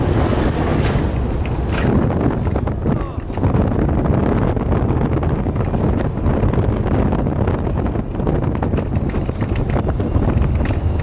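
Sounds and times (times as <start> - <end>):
car rumbling along: 0.0 - 11.0
wind rushing over microphone: 0.0 - 11.0.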